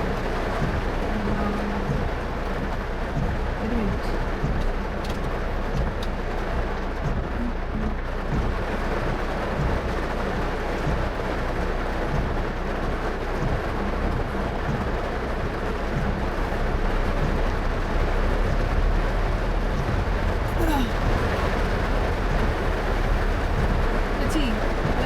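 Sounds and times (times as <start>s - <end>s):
heavy rain on car: 0.0s - 25.0s
road and tyre rumble: 0.0s - 25.0s.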